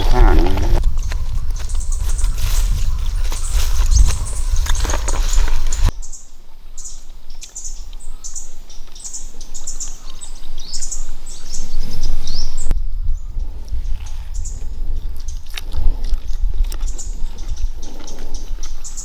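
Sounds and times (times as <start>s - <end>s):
bird chirping: 0.0s - 13.8s, 16.3s - 19.0s.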